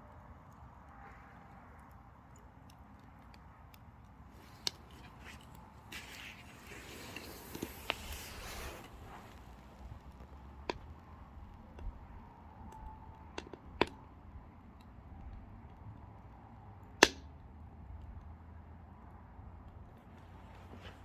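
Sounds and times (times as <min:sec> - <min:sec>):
firewood crackling and popping: 0:00.1 - 0:18.2.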